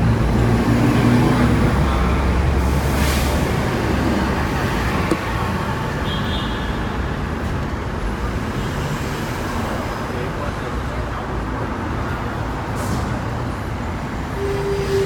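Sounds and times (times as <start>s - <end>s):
tram rumbling: 0.0s - 6.0s, 7.2s - 15.0s
road traffic: 0.0s - 15.0s.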